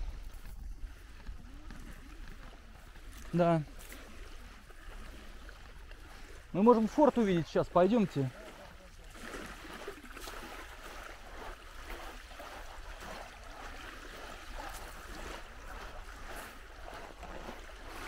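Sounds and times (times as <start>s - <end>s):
small waves lapping on shore: 0.0s - 18.0s.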